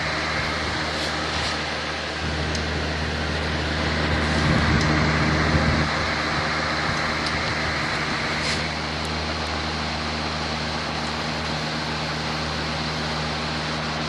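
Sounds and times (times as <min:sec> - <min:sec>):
box fan running with low hum: 0:00.0 - 0:14.0.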